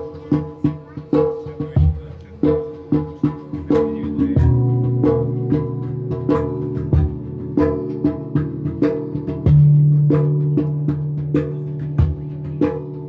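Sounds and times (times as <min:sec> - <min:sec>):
drum hits: 0:00.0 - 0:13.0
handpan notes: 0:00.0 - 0:13.0.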